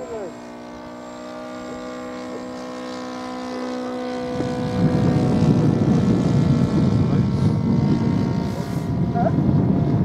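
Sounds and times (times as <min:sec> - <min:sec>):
model airplane motor droning: 0:00.0 - 0:10.0.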